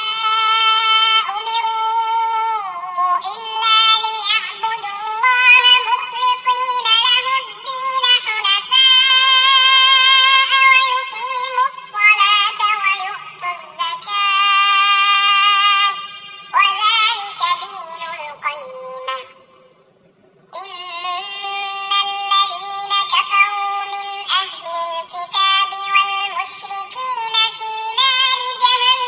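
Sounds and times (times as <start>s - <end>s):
synthetic voice chanting: 0.0s - 19.7s, 20.5s - 29.0s.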